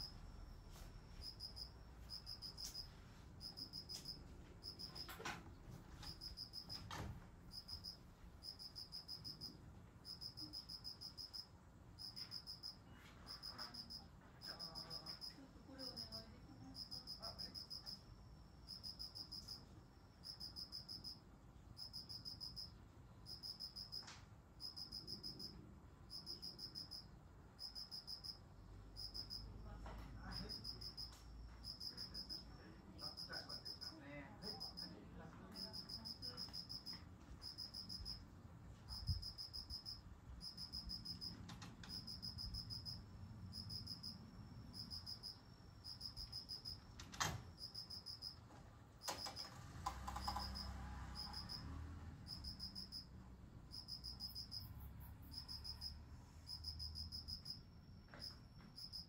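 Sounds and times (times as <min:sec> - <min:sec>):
insect chirping trills: 0:00.0 - 0:05.1, 0:06.0 - 0:06.9, 0:07.5 - 0:18.0, 0:18.6 - 0:21.2, 0:21.8 - 0:29.5, 0:30.3 - 0:34.9, 0:35.6 - 0:38.2, 0:38.9 - 0:47.0, 0:47.6 - 0:48.4, 0:52.3 - 0:53.1, 0:53.7 - 0:59.0.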